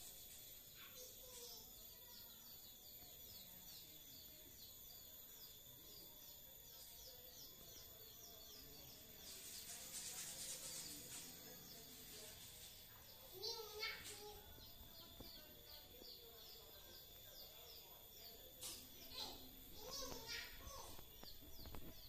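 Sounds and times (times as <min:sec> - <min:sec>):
small bird chirping: 0:00.0 - 0:22.0.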